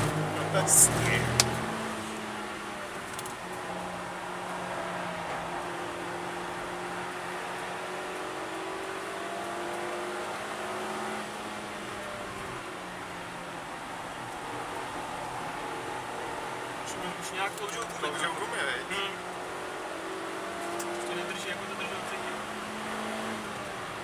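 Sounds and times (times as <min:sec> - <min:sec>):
car engine at speed: 0:00.0 - 0:24.0.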